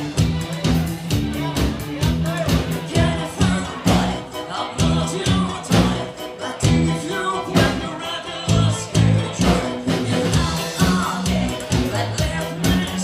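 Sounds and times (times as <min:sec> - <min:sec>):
bass notes: 0:00.0 - 0:13.0
person singing: 0:00.0 - 0:13.0
steady drum beat: 0:00.0 - 0:13.0.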